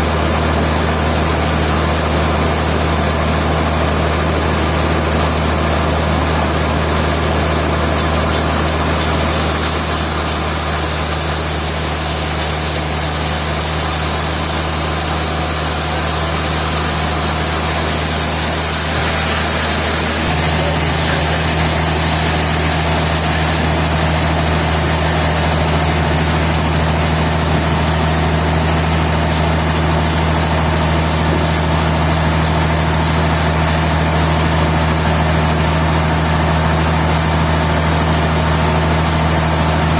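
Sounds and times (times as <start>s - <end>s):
machinery engine humming: 4.1s - 39.9s.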